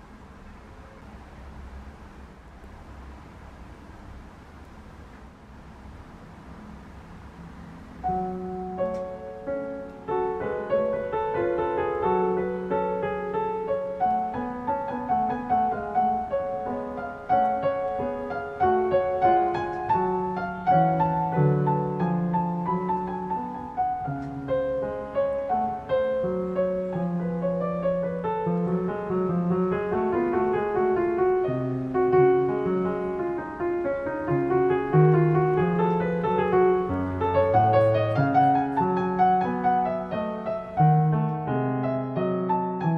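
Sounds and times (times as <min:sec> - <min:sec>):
piano music: 0:06.6 - 0:42.9.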